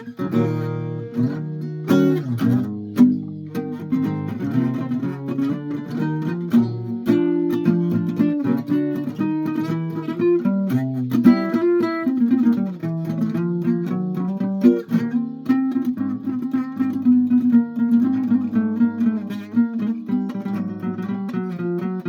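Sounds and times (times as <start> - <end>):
guitar plucking and strumming: 0.0 - 22.0.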